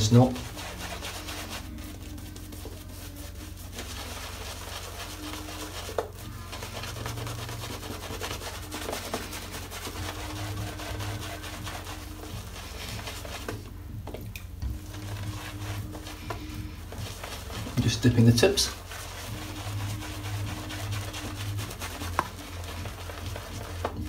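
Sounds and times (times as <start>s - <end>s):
shaving brush scrubbing face: 0.0s - 13.7s, 14.7s - 24.0s.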